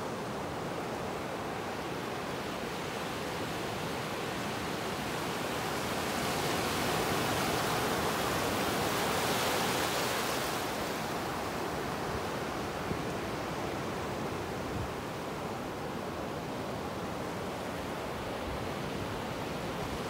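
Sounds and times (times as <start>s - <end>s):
ocean surf washing up beach: 0.2s - 20.0s.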